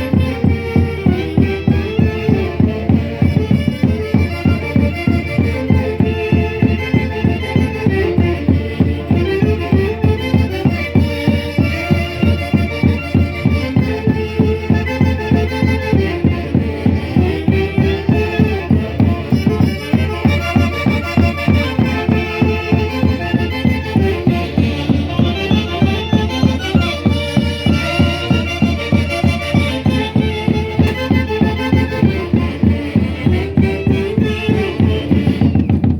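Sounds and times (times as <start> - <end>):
band music: 0.0 - 35.9.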